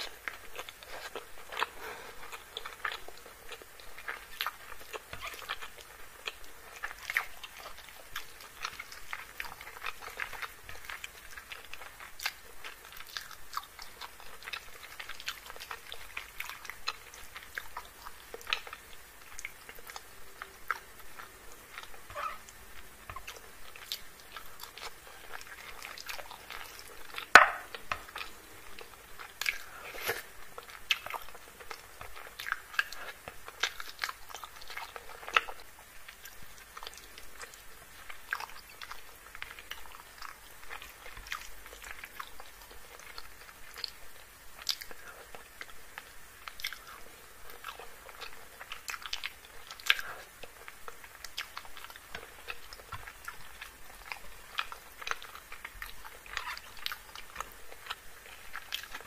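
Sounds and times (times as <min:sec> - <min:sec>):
wet chewing and mouth smacks: 0:00.0 - 0:59.0.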